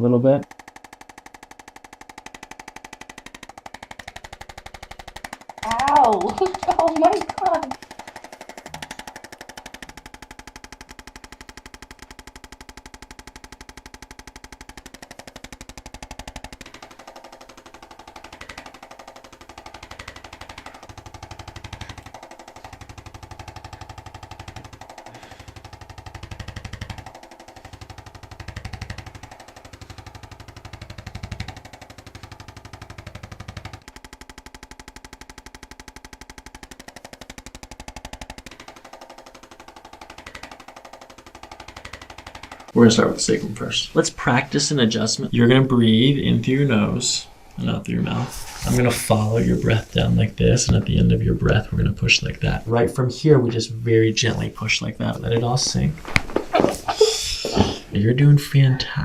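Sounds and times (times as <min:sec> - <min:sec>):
motor hum: 0:00.0 - 0:59.0
percussion massager knocking: 0:00.0 - 0:59.0.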